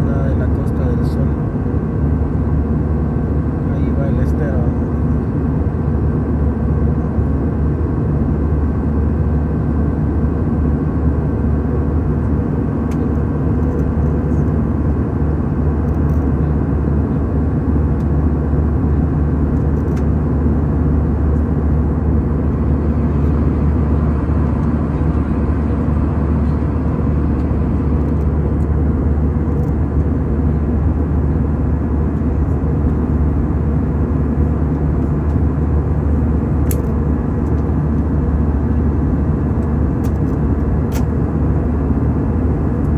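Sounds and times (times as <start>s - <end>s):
airliner cabin drone: 0.0s - 42.9s.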